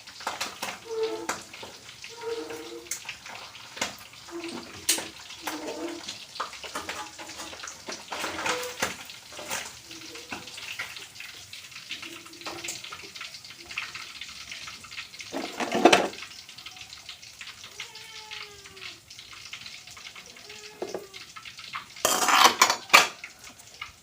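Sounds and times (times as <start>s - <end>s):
utensils and cookware clattering: 0.0s - 16.7s, 17.4s - 24.0s.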